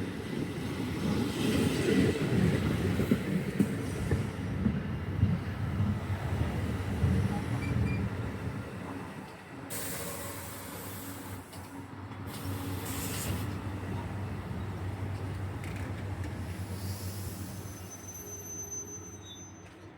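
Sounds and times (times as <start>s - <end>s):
train rumbling on rails: 0.0s - 19.9s.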